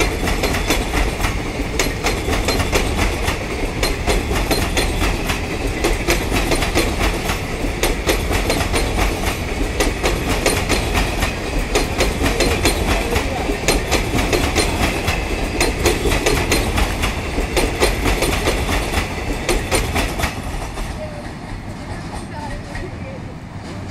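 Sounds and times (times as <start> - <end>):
train wheels clattering: 0.0 - 23.0
train rolling rush: 0.0 - 23.9.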